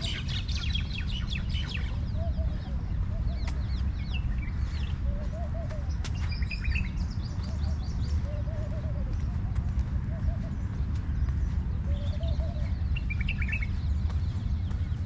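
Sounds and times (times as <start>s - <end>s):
birds chirping and whistling: 0.0s - 15.0s
steady low rumble: 0.0s - 15.0s.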